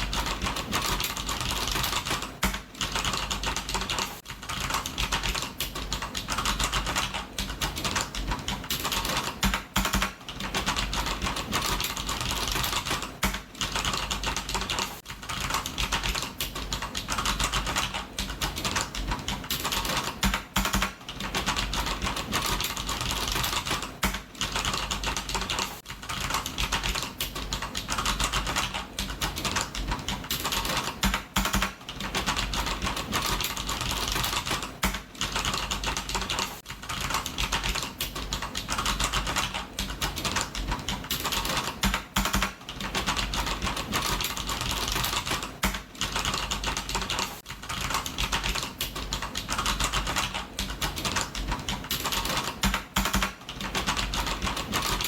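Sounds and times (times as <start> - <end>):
typing on computer keyboard: 0.0 - 55.0.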